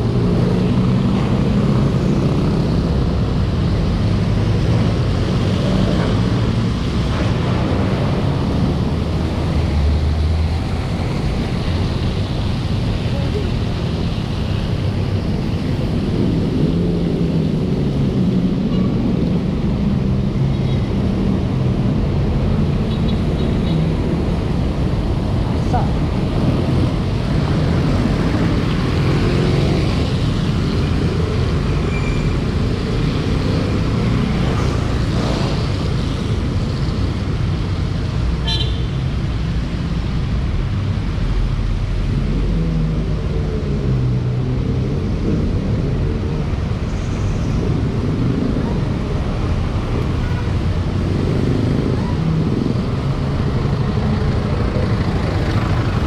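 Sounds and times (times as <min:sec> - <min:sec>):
vehicle engines running: 0:00.0 - 0:56.0.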